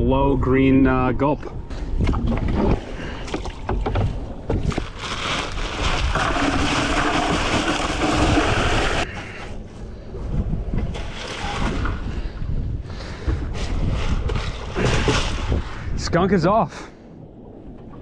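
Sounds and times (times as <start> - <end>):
wind buffeting microphone: 0.0 - 5.0, 5.6 - 18.0
water lapping: 1.6 - 18.0.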